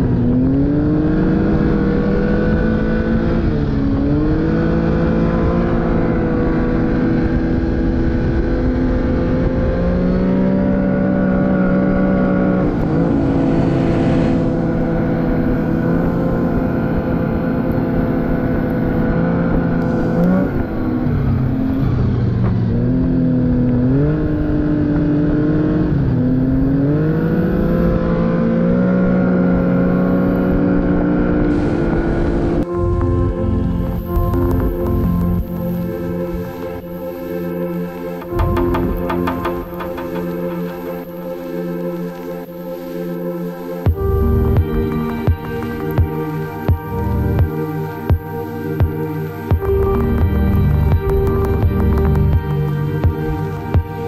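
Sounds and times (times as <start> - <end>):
snowmobile engine running: 0.0 - 41.1, 43.8 - 54.0.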